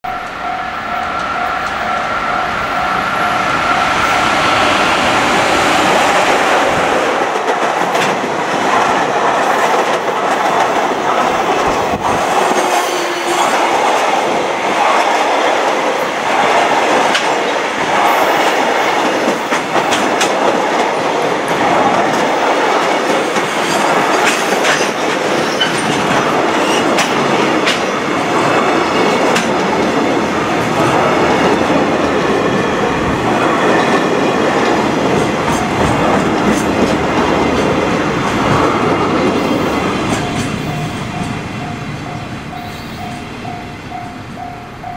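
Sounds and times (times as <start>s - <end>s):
train wheels rumbling on rail: 0.0s - 44.9s
clickety-clack of rail joints: 5.8s - 44.9s.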